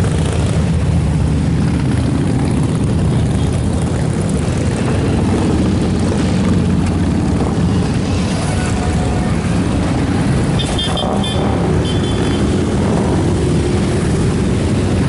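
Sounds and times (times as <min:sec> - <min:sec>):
many motorcycle engines rumbling: 0:00.0 - 0:15.0.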